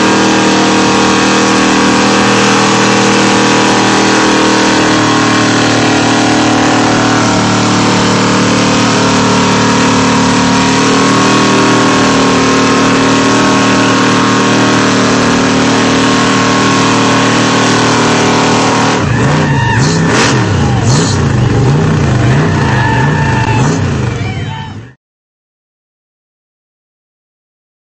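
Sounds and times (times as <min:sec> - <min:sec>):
engine at high revs: 0:00.0 - 0:24.4.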